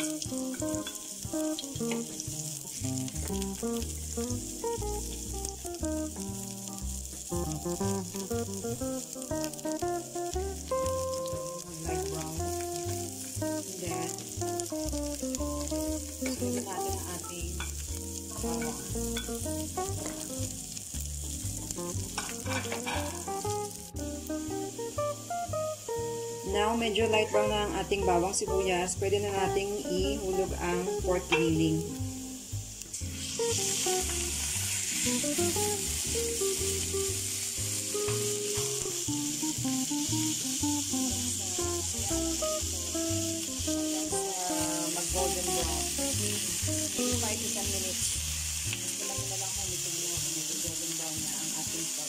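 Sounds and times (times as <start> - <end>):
background music with plucked notes: 0.0 - 52.0
onion sizzling in oil: 0.0 - 52.0.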